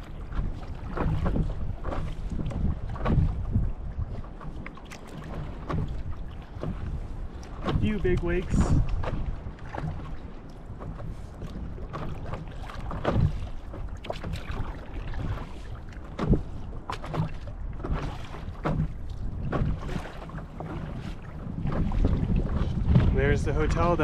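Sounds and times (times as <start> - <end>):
water splashing around paddle board: 0.0 - 24.0
wind rumble on microphone: 0.0 - 24.0.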